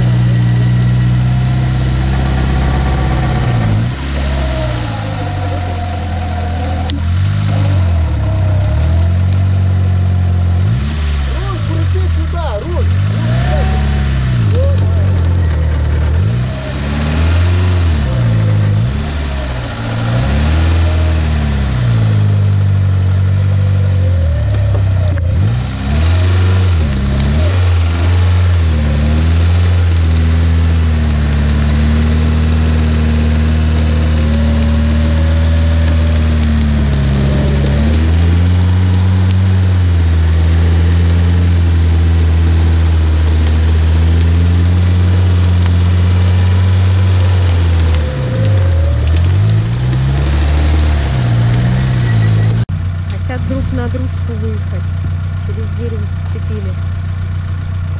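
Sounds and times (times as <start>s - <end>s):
off-road vehicle engine revving: 0.0s - 57.9s.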